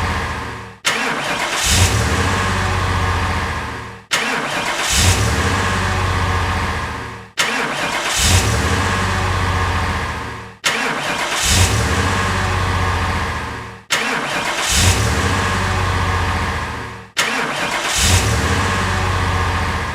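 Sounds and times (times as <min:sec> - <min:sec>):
car engine starting and running: 0:00.0 - 0:19.9.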